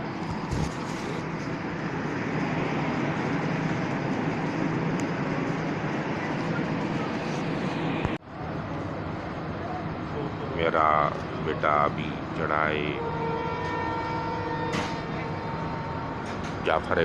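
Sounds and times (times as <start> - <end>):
diesel locomotive idling: 0.0 - 17.0.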